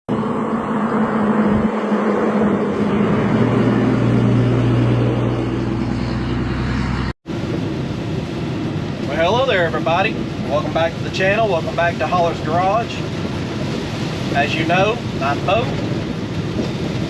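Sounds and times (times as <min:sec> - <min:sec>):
heavy diesel engine running: 0:00.1 - 0:17.0.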